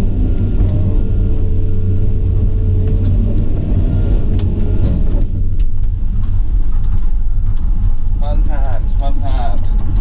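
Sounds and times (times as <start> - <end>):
excavator engine rumbling: 0.0 - 10.0
faint whine: 0.0 - 10.0.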